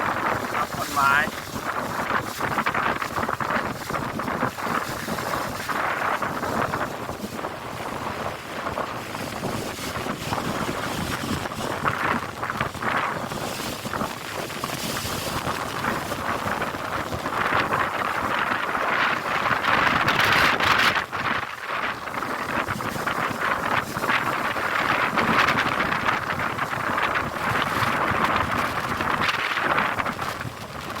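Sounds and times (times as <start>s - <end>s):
storm wind gusting through trees: 0.0s - 31.0s
wind buffeting microphone: 0.0s - 31.0s.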